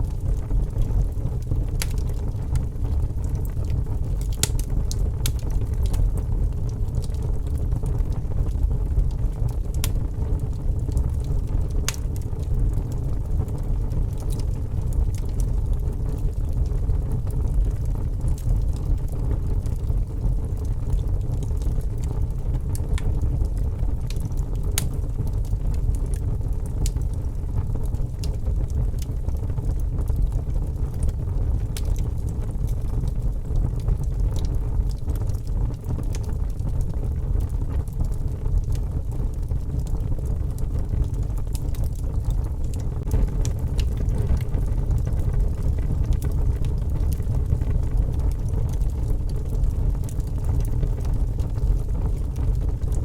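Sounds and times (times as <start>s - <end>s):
low rumble of storm wind: 0.0s - 53.0s
wood fire crackling and popping: 0.0s - 53.0s.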